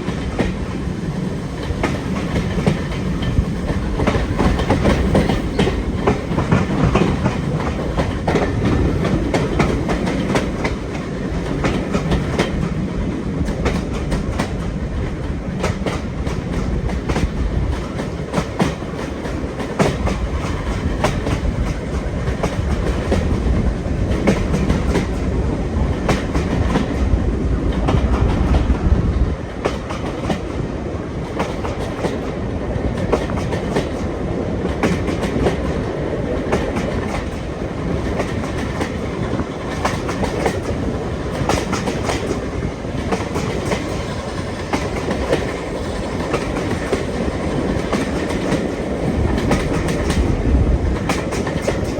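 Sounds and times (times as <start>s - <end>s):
train rumbling: 0.0s - 51.9s
train wheels clicking on rails: 0.0s - 51.9s.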